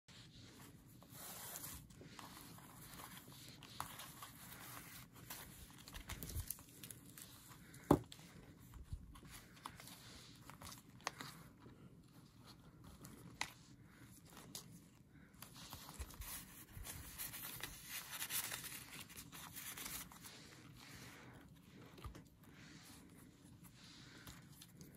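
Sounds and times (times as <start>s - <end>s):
paper and card rustling: 0.5s - 24.9s.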